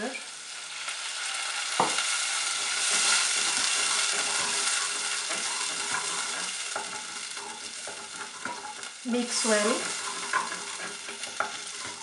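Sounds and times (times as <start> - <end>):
water sizzling in hot oil: 0.0 - 12.0
wooden spatula scraping a pan: 1.8 - 12.0.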